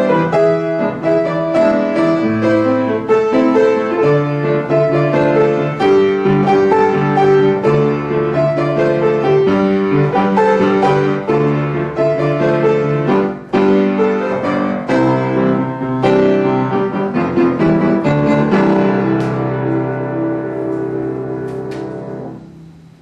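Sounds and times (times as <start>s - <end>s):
piano ballad: 0.0s - 23.0s.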